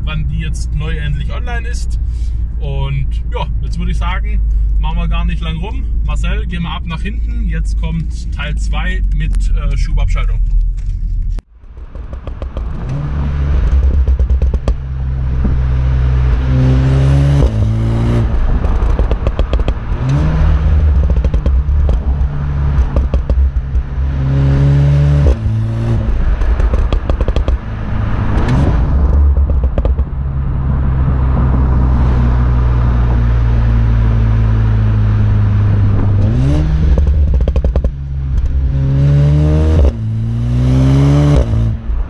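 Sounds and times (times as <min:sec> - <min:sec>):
car engine revving: 0:00.0 - 0:42.0
exhaust crackles and pops: 0:00.0 - 0:42.0.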